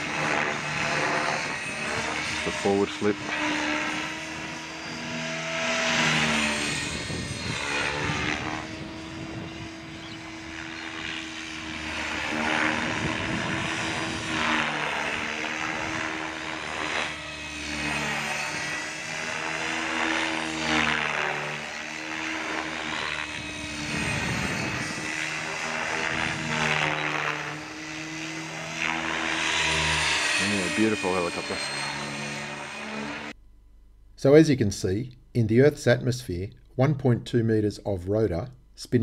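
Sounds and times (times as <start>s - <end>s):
model helicopter rotor whine: 0.0s - 33.4s.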